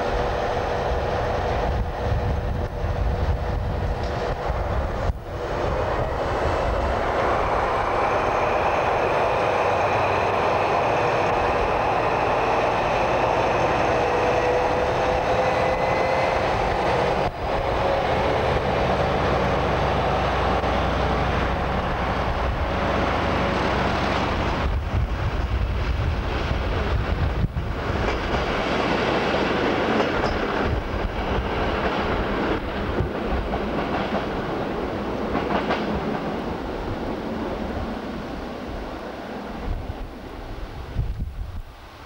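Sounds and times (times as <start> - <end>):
diesel locomotive engine drone: 0.0 - 42.0.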